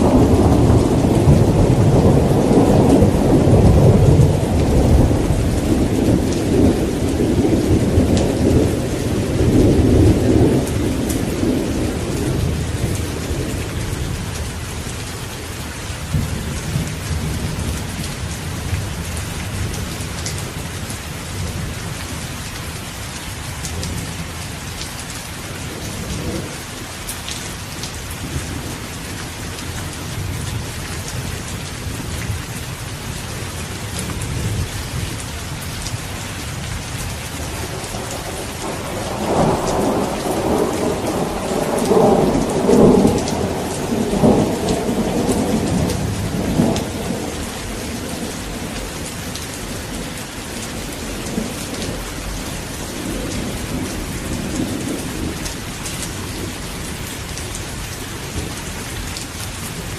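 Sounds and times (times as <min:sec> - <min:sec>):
thunder rumbling: 0:00.0 - 0:22.1, 0:25.4 - 0:26.8, 0:27.8 - 0:58.9
steady rain falling: 0:00.0 - 0:59.9.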